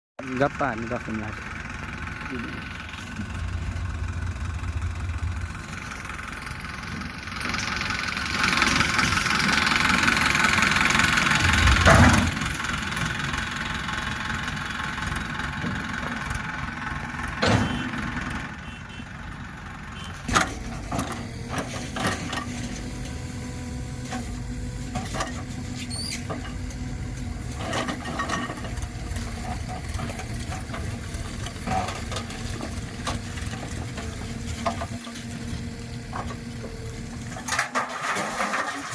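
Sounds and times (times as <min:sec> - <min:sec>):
diesel engine revving: 0:00.2 - 0:38.9.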